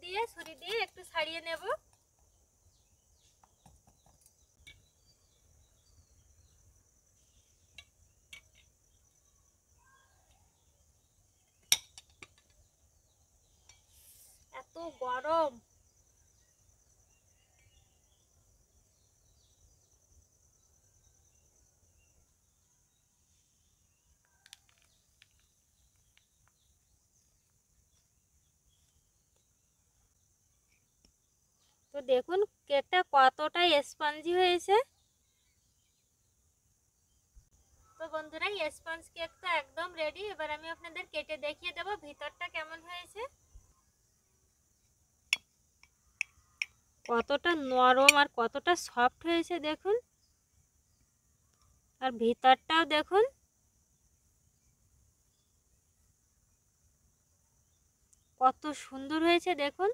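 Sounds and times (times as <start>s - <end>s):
faint chirps: 0.0s - 59.9s
faint insect trill: 0.0s - 59.9s.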